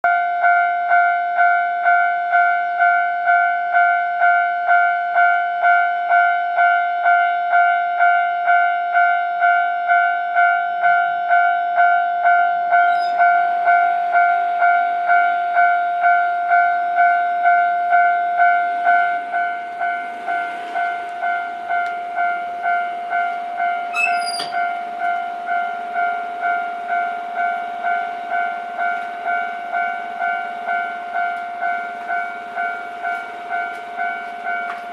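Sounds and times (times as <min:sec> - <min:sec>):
level crossing warning bell: 0:00.1 - 0:34.9.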